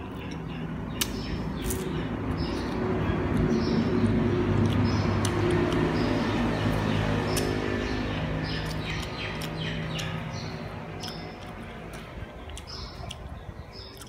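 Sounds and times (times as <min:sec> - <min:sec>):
man chewing with wet smacks: 0:00.0 - 0:07.7, 0:08.5 - 0:14.0.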